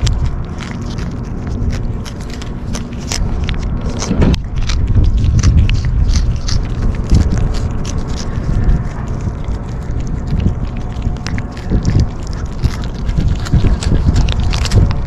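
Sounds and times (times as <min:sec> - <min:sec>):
kittens crunching food: 0:00.0 - 0:15.0
wind rumble on microphone: 0:00.0 - 0:15.0.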